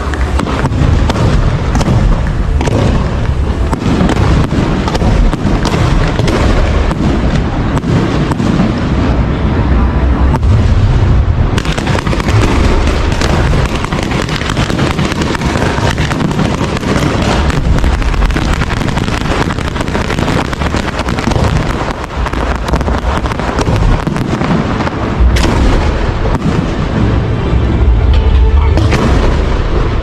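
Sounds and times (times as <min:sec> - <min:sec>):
fireworks rapid bangs and crackling: 0:00.0 - 0:27.4
fireworks deep booms: 0:00.0 - 0:30.0.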